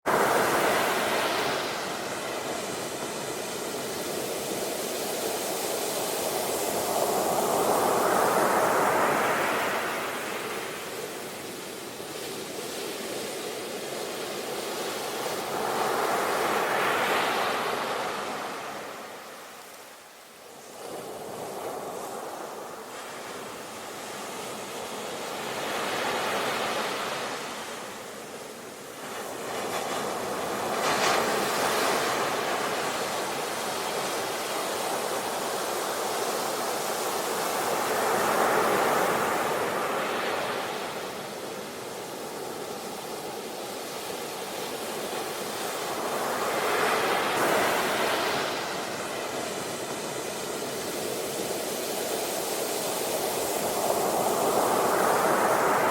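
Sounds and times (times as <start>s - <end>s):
sea waves breaking on shore: 0.1s - 55.9s.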